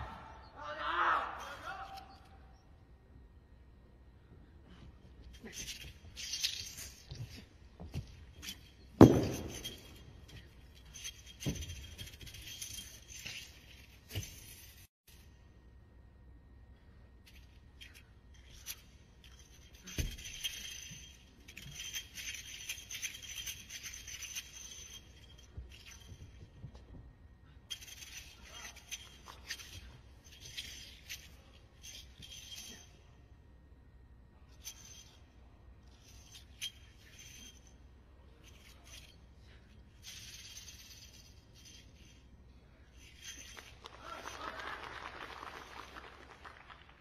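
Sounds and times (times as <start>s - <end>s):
spear clinking and rattling: 4.7s - 15.3s, 17.2s - 33.3s, 34.5s - 46.8s.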